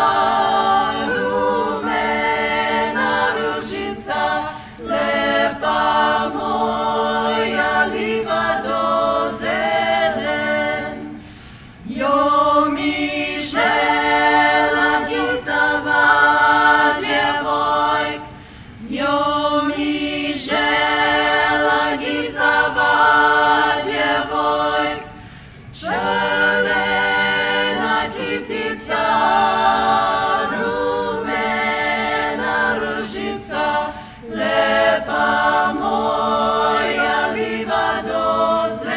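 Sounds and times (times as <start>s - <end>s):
women singing a cappella: 0.0s - 38.9s.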